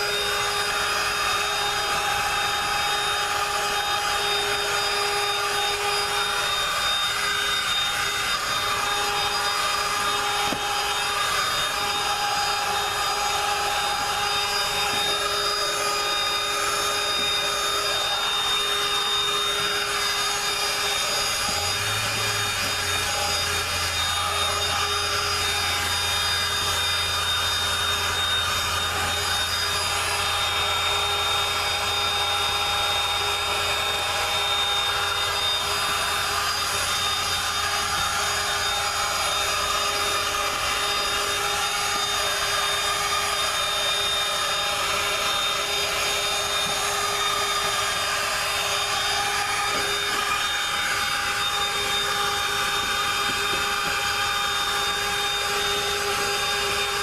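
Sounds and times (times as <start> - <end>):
handheld vacuum motor whine: 0.0 - 57.0.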